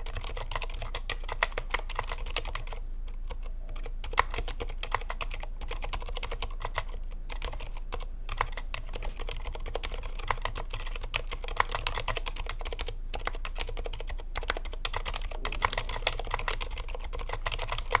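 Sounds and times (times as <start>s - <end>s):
fast typing on keyboard: 0.0s - 18.0s.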